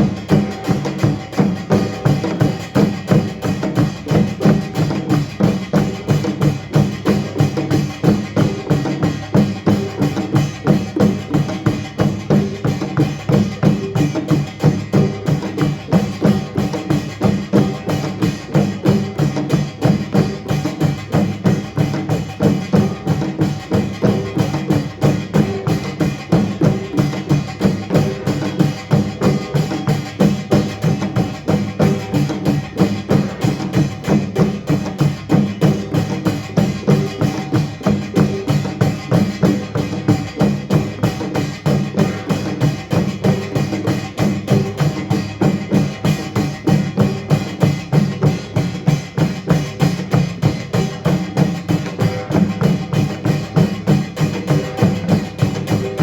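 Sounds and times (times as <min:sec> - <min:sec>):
percussion band drumming: 0:00.0 - 0:56.0.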